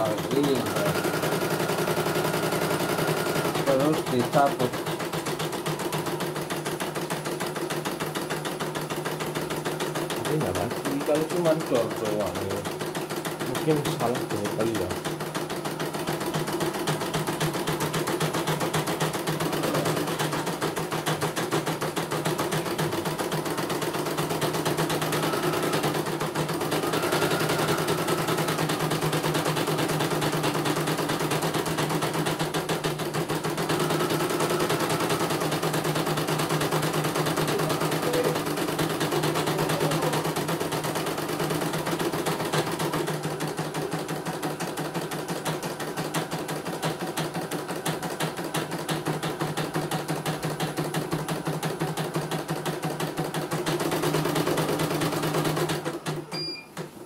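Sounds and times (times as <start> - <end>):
embroidery machine needle stitching: 0.0 - 57.0.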